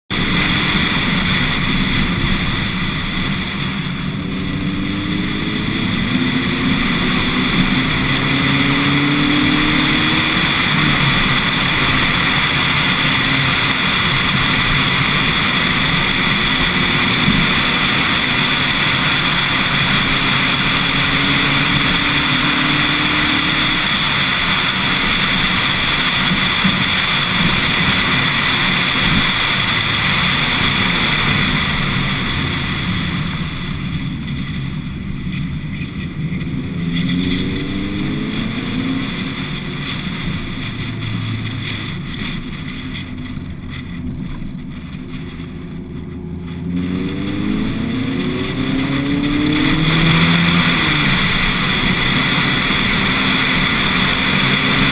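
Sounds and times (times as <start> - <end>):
car engine revving: 0.0 - 54.9
wind and road noise: 0.0 - 54.9.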